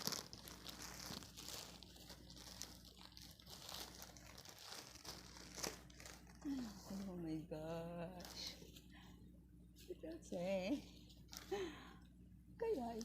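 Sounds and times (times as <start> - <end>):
plastic packaging crinkling: 0.0 - 8.9, 9.8 - 11.9, 12.6 - 13.0.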